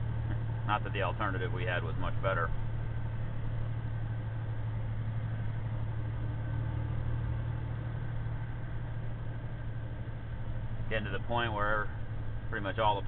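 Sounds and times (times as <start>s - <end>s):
road noise: 0.0s - 13.0s
truck diesel engine droning: 0.0s - 13.0s.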